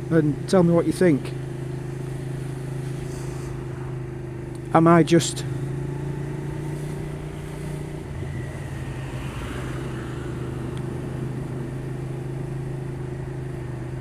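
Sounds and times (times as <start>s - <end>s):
motorcycle engine running: 0.0s - 14.0s
road and wind noise: 0.0s - 14.0s.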